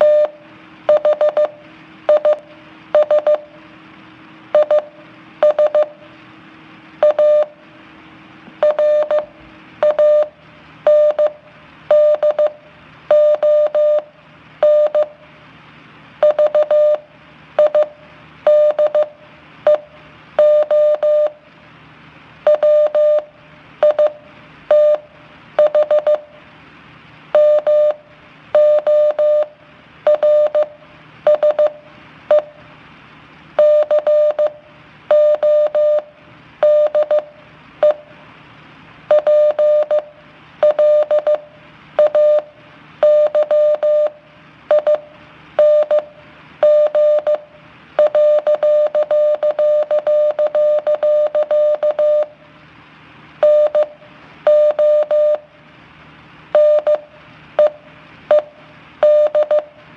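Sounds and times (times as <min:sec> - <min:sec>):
morse code beeps: 0:00.0 - 0:03.5, 0:04.5 - 0:06.0, 0:07.0 - 0:07.6, 0:08.6 - 0:15.2, 0:16.2 - 0:21.4, 0:22.4 - 0:26.3, 0:27.3 - 0:32.6, 0:33.6 - 0:38.1, 0:39.1 - 0:52.4, 0:53.4 - 0:55.5, 0:56.5 - 0:59.8.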